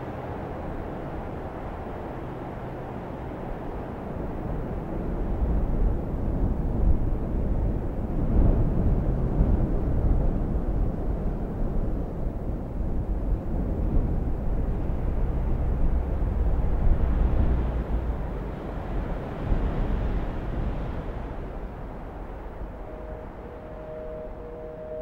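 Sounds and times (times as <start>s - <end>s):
low steady rumbling: 0.0s - 25.0s.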